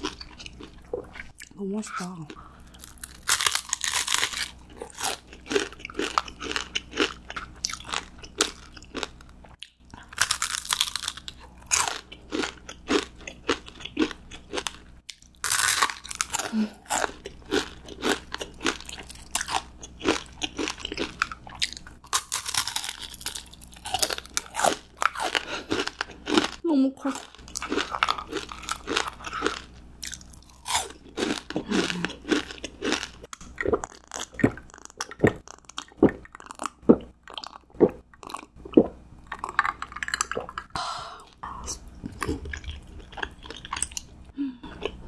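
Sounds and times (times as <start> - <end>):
crunchy bites and chewing: 2.3 - 40.7, 42.0 - 45.0.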